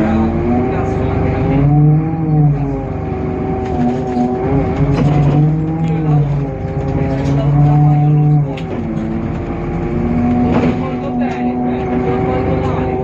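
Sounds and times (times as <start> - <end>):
bus diesel engine running: 0.0 - 13.0
strong low drone: 0.0 - 13.0.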